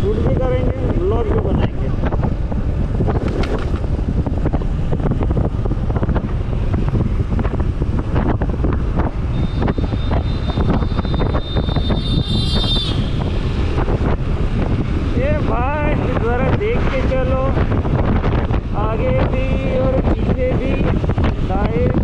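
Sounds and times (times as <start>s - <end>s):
motorcycle engine and road noise: 0.0s - 22.0s
wind buffeting microphone: 0.0s - 22.0s.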